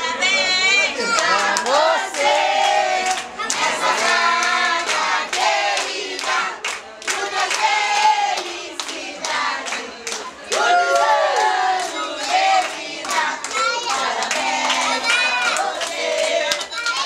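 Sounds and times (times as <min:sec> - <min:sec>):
group singing birthday song: 0:00.0 - 0:17.0.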